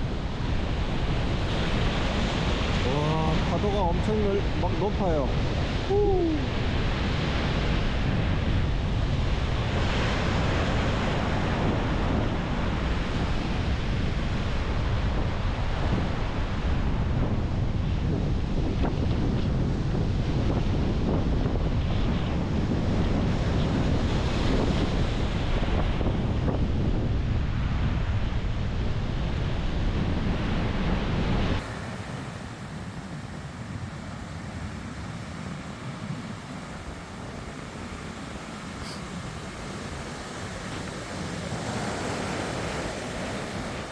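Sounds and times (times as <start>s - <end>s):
surf breaking on beach: 0.0s - 43.9s
wind buffeting microphone: 0.0s - 43.9s.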